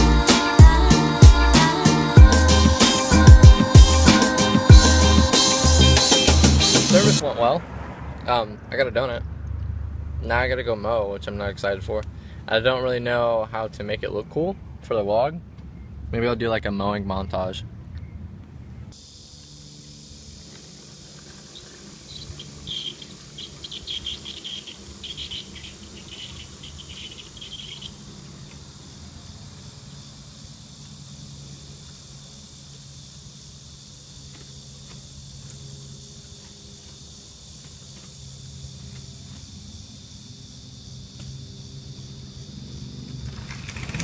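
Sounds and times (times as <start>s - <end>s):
insects chirping: 0.0s - 14.6s, 15.5s - 44.0s.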